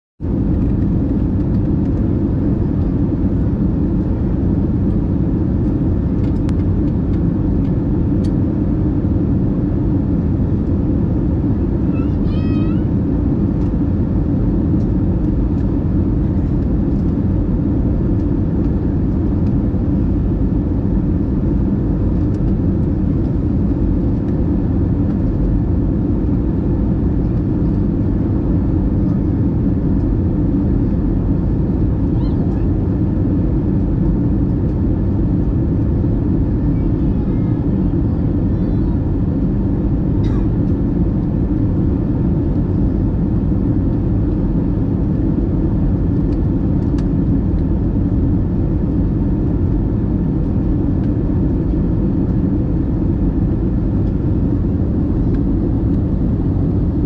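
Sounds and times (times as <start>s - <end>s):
airliner engine drone in cabin: 0.2s - 57.0s.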